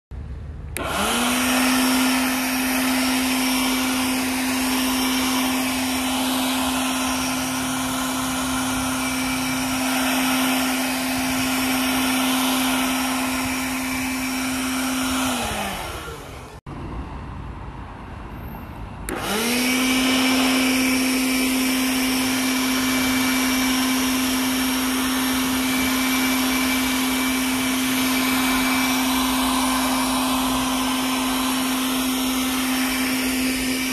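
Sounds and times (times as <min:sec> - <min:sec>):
cordless blower whining: 0:00.7 - 0:16.6, 0:19.1 - 0:33.9.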